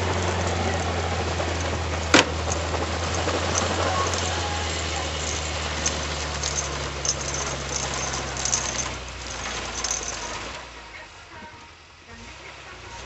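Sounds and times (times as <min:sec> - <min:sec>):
light rattles and clicks: 0:00.0 - 0:10.6
truck engine running at low revs: 0:00.0 - 0:13.0.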